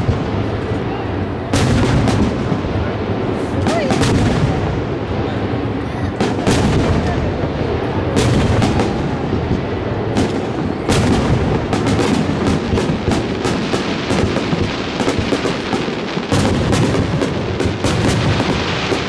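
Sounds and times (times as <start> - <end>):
firework sharp cracks: 0.0 - 19.0
firework shells booming: 0.0 - 19.0.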